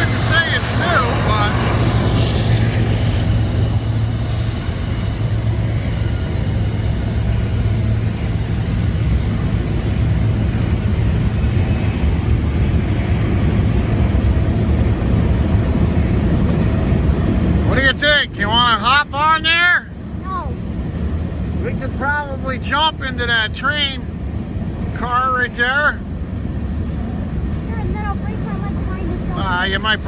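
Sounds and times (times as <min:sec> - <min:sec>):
freight train wheels on rails: 0:00.0 - 0:30.0.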